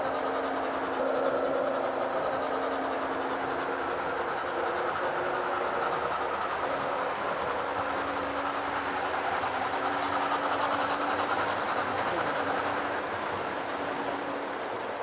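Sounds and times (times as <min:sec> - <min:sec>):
model train wheels on rails: 0:00.0 - 0:15.0.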